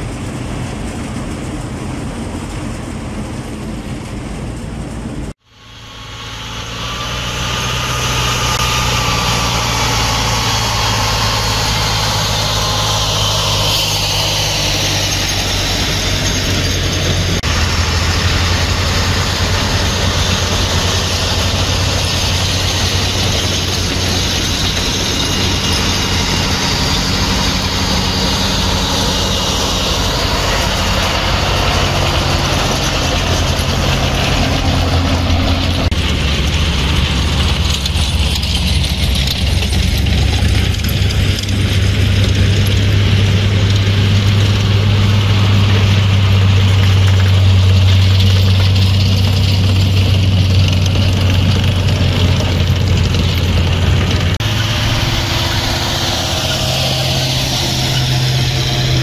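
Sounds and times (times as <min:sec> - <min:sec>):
vehicle engines droning: 0:00.0 - 0:59.0
whining tones sliding in pitch: 0:05.5 - 0:59.0.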